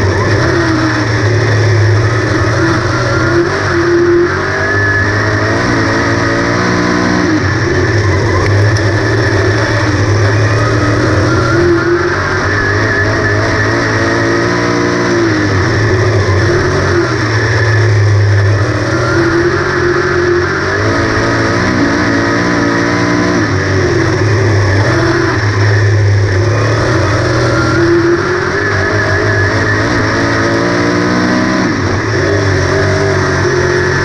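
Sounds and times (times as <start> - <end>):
race car engine at speed: 0.0 - 34.0.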